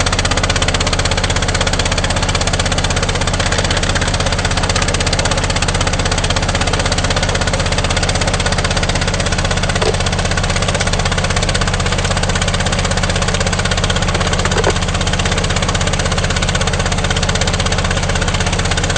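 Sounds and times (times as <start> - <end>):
small gasoline engine running: 0.0 - 18.9.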